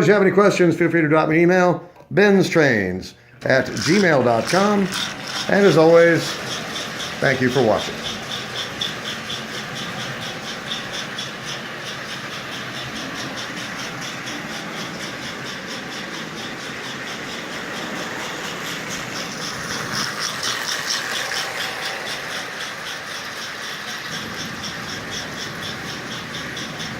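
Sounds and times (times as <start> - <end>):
toy train motor and wheels: 3.4 - 26.9
toy train rattling chuff: 3.4 - 26.9.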